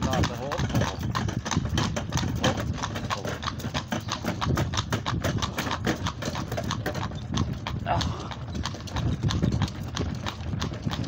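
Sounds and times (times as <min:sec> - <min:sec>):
cart wheels rumbling: 0:00.0 - 0:11.0
hooves clip-clopping on snowy road: 0:00.0 - 0:11.0.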